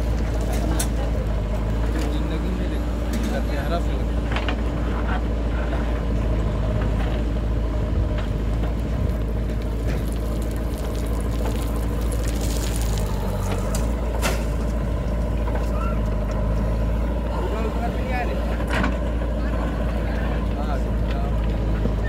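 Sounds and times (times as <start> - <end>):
diesel engine running: 0.0 - 22.0
backhoe digging soil: 4.2 - 22.0.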